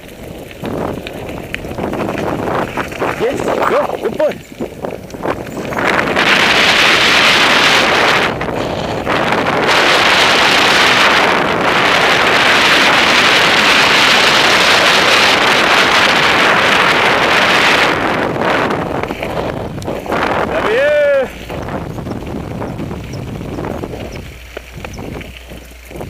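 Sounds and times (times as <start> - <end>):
heavy wind on microphone: 0.0 - 26.0.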